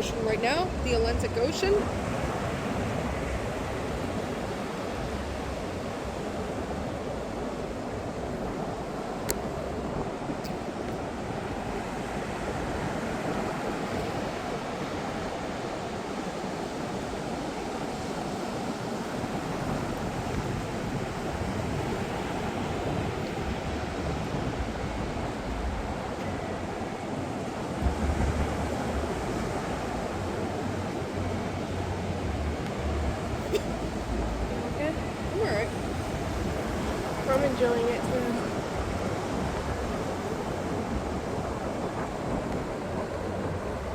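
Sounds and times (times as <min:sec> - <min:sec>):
ocean surf breaking on beach: 0:00.0 - 0:43.9
wind buffeting microphone: 0:00.0 - 0:43.9.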